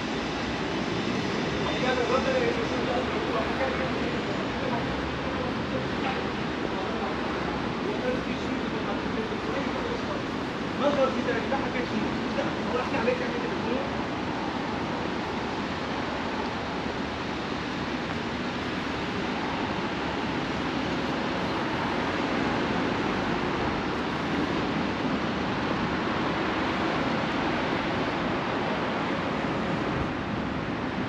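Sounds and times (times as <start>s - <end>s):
road traffic rushing: 0.0s - 31.0s.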